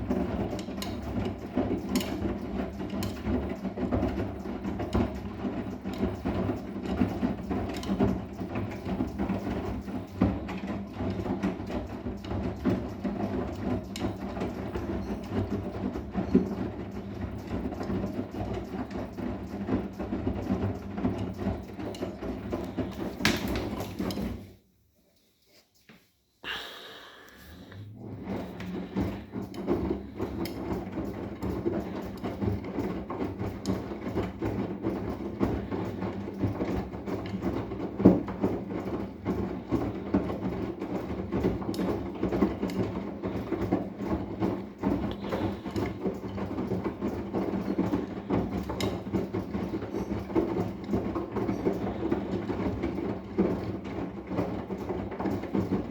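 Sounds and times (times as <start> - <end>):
small rattles and clicks: 0.0 - 24.6, 28.0 - 55.9
washing machine drum tumbling: 0.0 - 24.6, 27.9 - 55.9.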